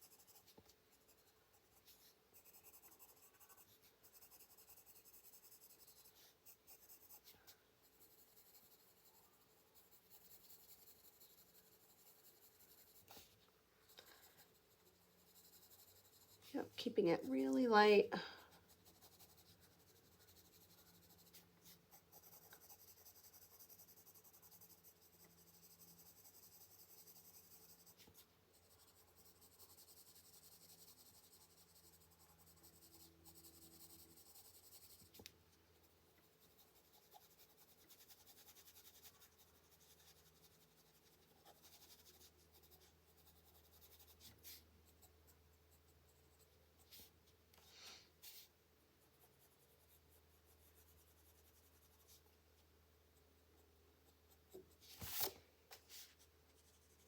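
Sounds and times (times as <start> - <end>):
pencil scratching on paper: 0.0 - 52.3, 53.6 - 57.0.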